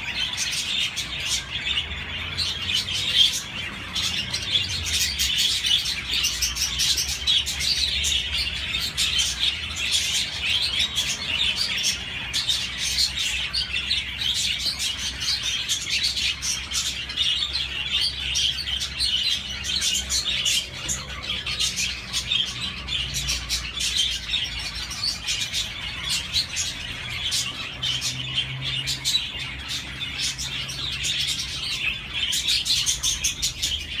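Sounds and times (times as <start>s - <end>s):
budgerigars chirping and warbling: 0.0s - 34.0s.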